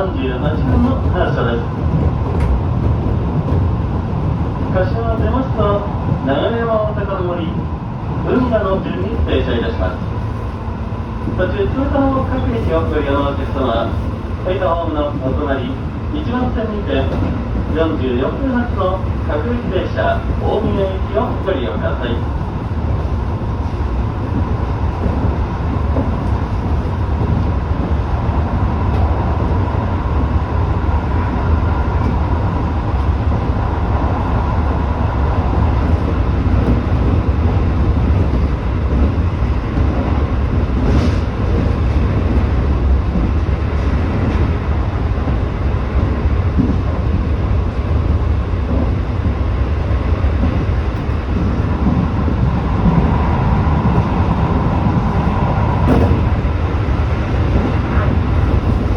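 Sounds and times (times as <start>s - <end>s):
train wheels rumbling: 0.0s - 58.9s.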